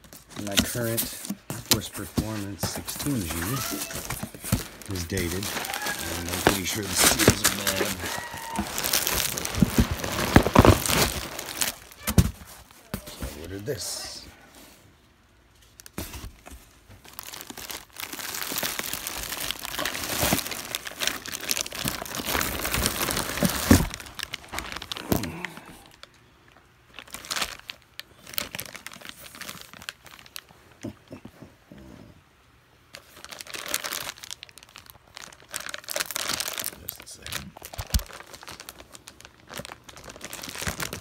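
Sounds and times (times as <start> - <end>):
plastic wrap crinkling: 0.0 - 14.2, 15.5 - 30.5, 32.9 - 41.0.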